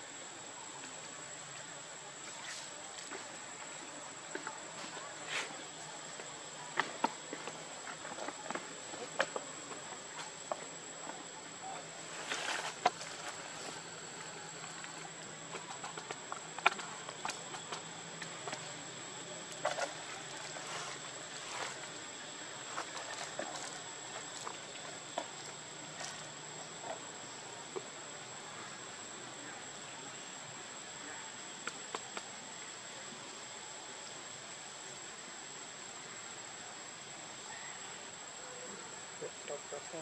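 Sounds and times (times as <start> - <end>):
high-pitched insect whine: 0.0 - 40.0.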